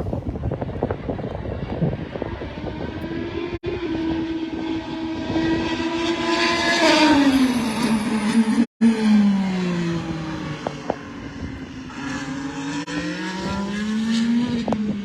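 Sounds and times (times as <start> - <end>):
wind buffeting microphone: 0.0 - 8.4, 9.9 - 15.0
race car passing at speed: 1.4 - 15.0.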